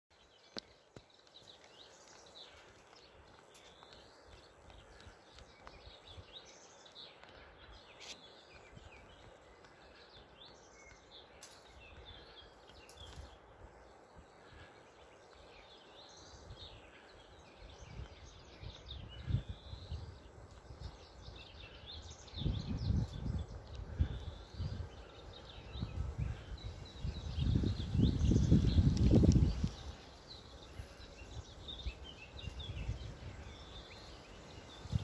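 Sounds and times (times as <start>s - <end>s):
small birds chirping: 0.1s - 35.0s.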